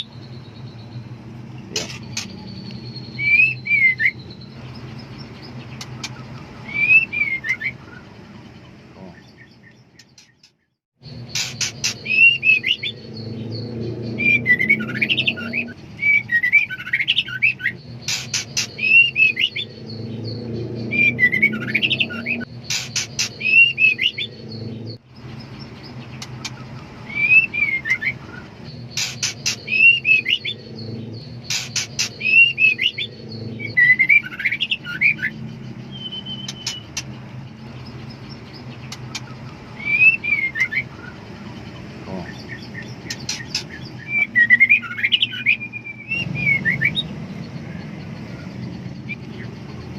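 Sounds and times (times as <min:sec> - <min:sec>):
bird whistled calls and clicks: 0:00.0 - 0:08.1, 0:09.1 - 0:49.9.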